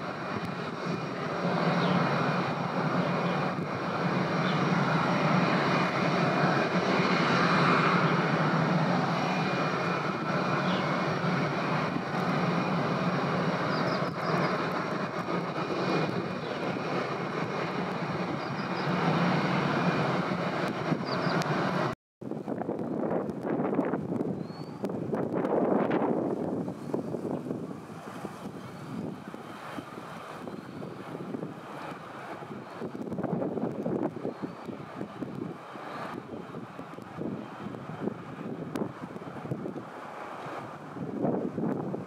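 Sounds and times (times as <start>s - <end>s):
jet engine high whine: 0.0s - 42.0s
jet engines low rumble: 0.0s - 42.0s.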